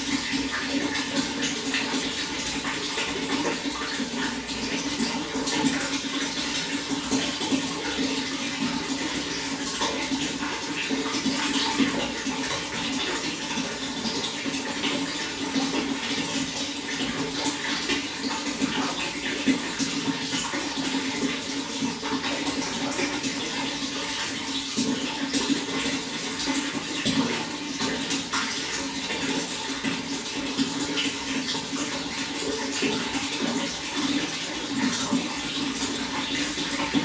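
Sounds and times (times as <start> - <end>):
running water splashing: 0.0 - 37.0.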